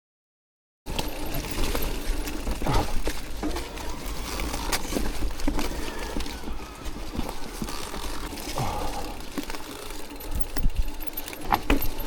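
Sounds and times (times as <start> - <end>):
bike clicks and rattles: 0.9 - 12.0
bike tyres on dirt: 0.9 - 12.0.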